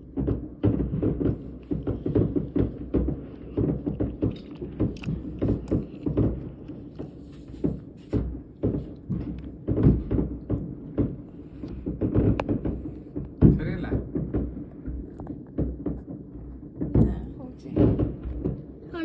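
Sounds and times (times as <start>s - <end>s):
fireworks booming: 0.0s - 19.0s
sharp firework cracks: 0.0s - 19.0s.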